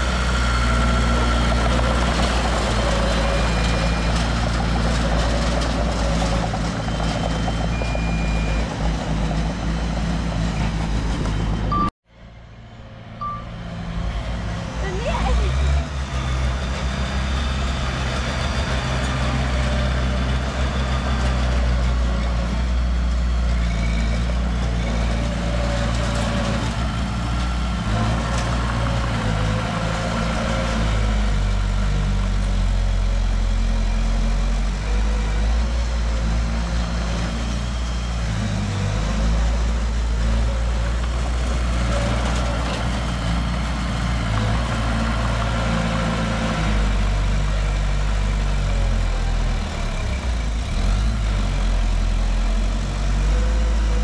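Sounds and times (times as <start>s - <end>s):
diesel engine running low: 0.0s - 54.0s.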